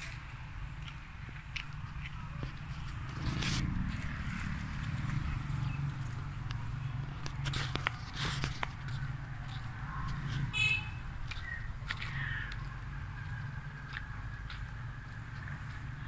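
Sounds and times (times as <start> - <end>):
footsteps on dirt path: 0.0 - 16.0.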